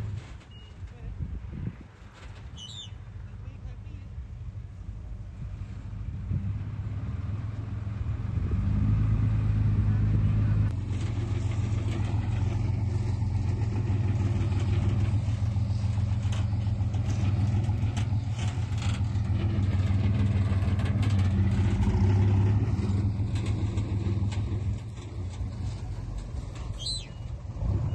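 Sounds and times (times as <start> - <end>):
diesel engine running: 3.8 - 27.9.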